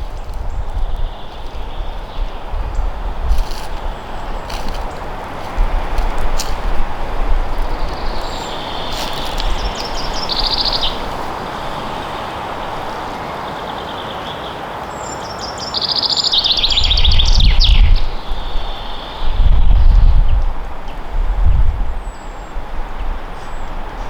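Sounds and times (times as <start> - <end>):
forest ambience hiss: 0.0 - 19.6
songbirds singing: 0.0 - 21.1.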